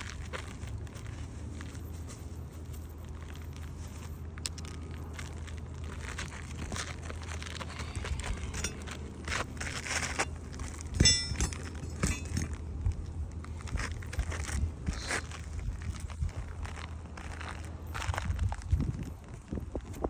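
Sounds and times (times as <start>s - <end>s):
shingles crackling and crunching: 0.0s - 20.0s.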